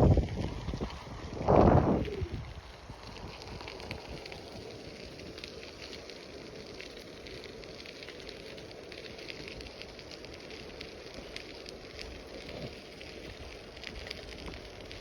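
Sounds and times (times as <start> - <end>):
bicycle tyres rolling on gravel: 0.0 - 15.0.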